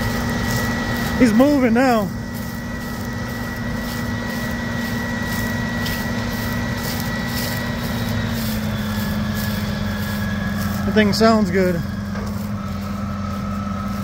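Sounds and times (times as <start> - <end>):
diesel tractor engine running: 0.0 - 14.0
steady high whine: 0.0 - 14.0.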